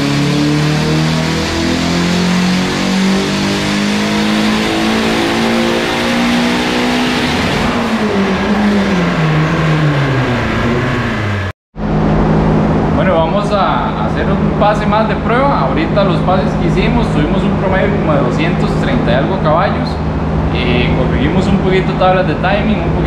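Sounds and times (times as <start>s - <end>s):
turbo engine revving: 0.0s - 23.0s.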